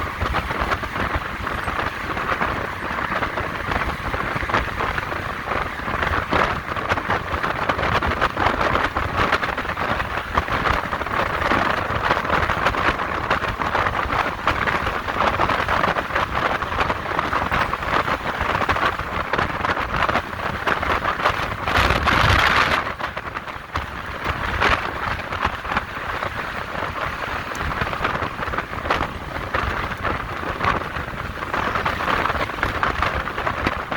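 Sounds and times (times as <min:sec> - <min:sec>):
wind and road noise: 0:00.0 - 0:33.9.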